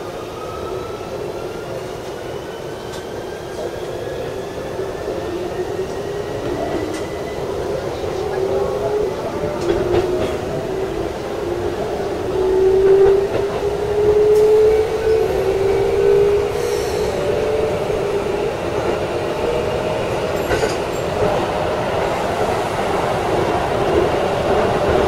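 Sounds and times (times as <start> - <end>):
train wheels rumbling on rails: 0.6 - 25.0.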